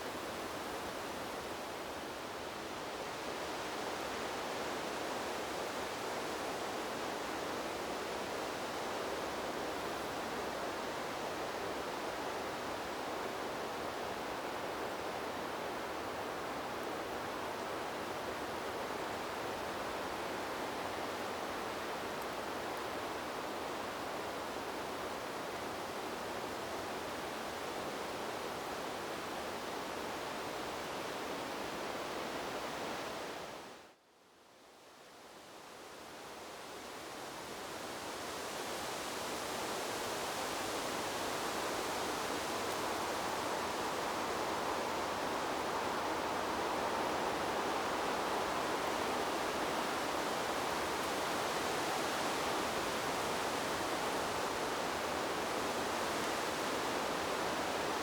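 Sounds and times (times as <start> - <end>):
wind blowing through trees: 0.0 - 58.0.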